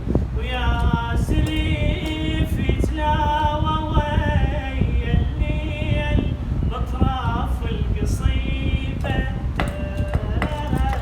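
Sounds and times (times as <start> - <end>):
low rumble: 0.0 - 11.0
man singing unaccompanied: 0.4 - 11.0.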